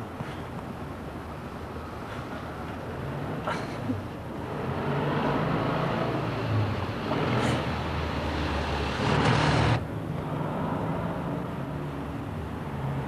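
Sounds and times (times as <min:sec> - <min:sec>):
motor vehicle hum and rumble: 0:00.0 - 0:13.0.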